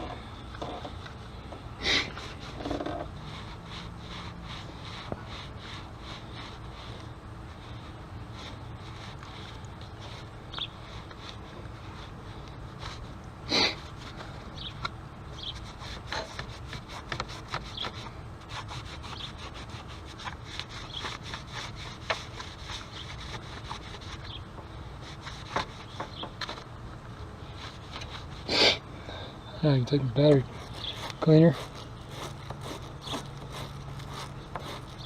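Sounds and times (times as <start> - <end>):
scrubbing a battery terminal: 2.1 - 26.7, 29.9 - 35.0.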